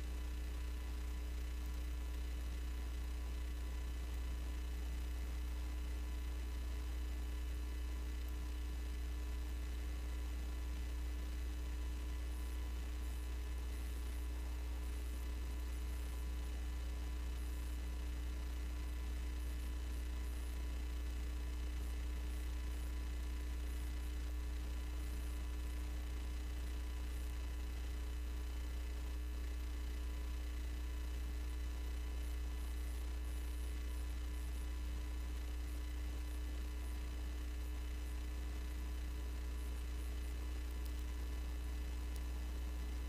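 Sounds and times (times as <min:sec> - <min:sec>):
low electrical mains hum: 0:00.0 - 0:43.0.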